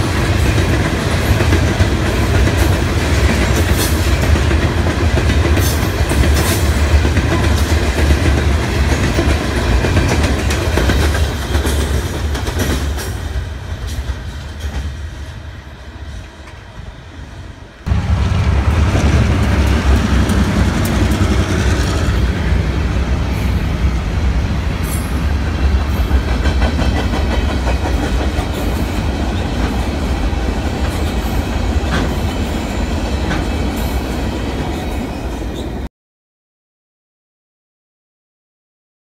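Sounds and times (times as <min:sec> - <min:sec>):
freight train rumbling on rails: 0:00.0 - 0:35.9.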